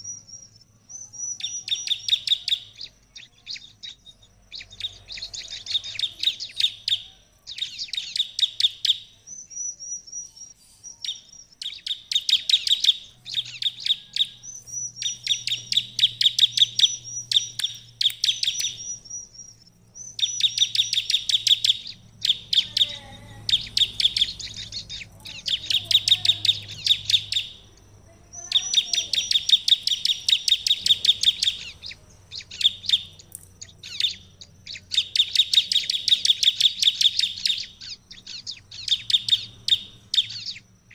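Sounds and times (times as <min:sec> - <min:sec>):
bird fast sharp chipping song: 0:00.0 - 0:40.9.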